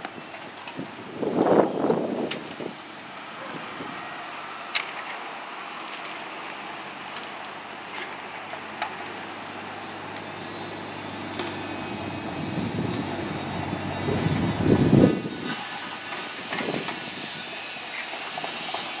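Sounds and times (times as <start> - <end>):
excavator diesel engine running: 2.8 - 19.0.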